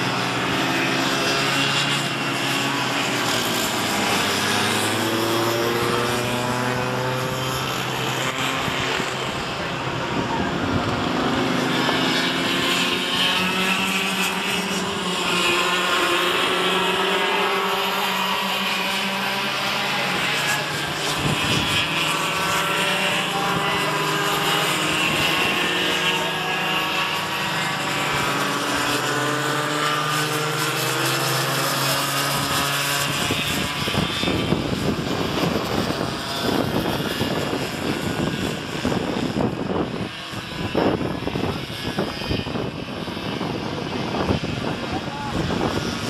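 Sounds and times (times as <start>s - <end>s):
kart engines racing: 0.0s - 46.0s.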